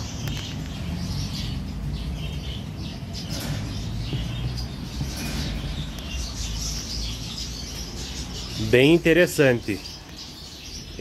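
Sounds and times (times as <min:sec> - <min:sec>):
shop background rumble: 0:00.0 - 0:11.0
small birds chirping: 0:00.0 - 0:11.0.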